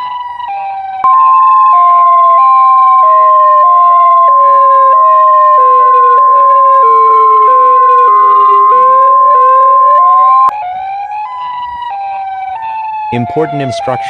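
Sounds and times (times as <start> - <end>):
emergency alert tone: 0.0 - 14.0
siren wailing: 0.0 - 14.0.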